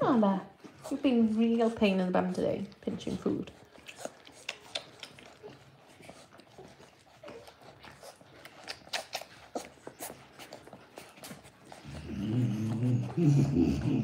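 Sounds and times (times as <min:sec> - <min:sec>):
puppies suckling wet smacks: 0:00.5 - 0:14.0.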